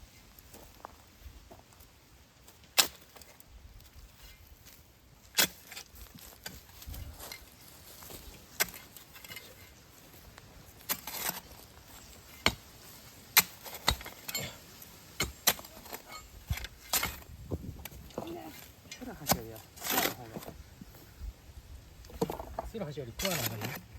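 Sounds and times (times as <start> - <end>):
digging tool striking stony soil: 2.5 - 20.6, 22.1 - 23.9.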